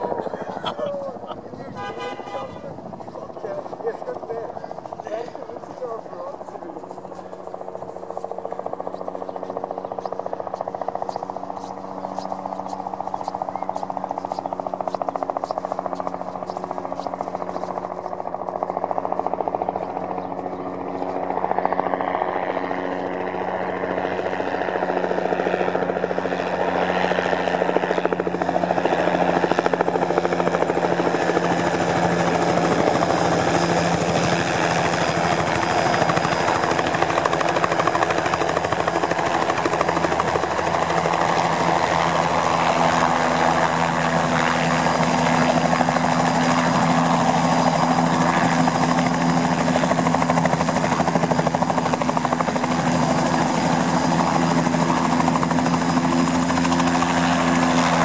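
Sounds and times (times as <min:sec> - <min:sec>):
helicopter turbine and rotor noise: 0:00.0 - 0:58.0.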